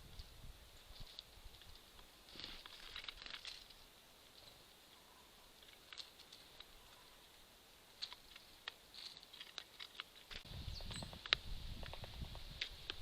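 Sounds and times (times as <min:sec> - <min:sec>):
birds pecking at seeds: 0:00.1 - 0:13.0.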